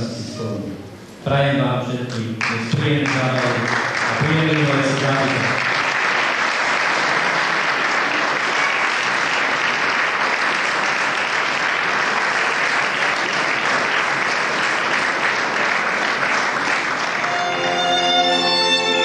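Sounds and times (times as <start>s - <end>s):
audience applauding: 2.4s - 19.0s.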